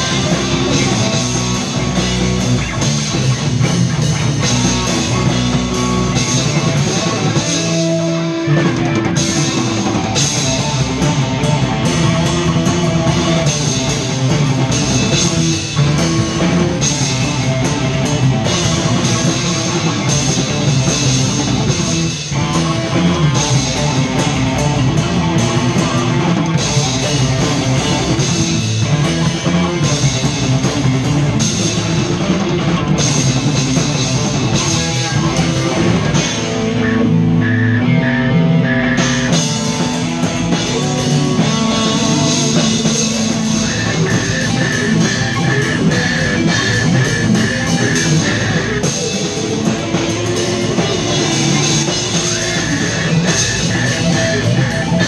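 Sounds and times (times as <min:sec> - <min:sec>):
drum kit with crashing cymbals: 0:00.0 - 0:55.0
electric bass: 0:00.0 - 0:55.0
electric guitars: 0:00.0 - 0:55.0.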